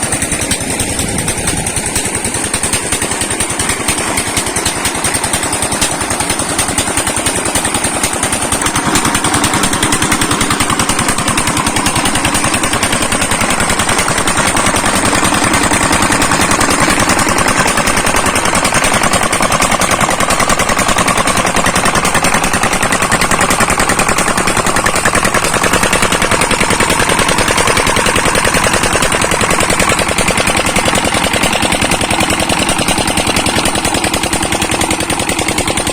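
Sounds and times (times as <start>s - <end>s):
diesel engine knocking: 0.0s - 35.9s.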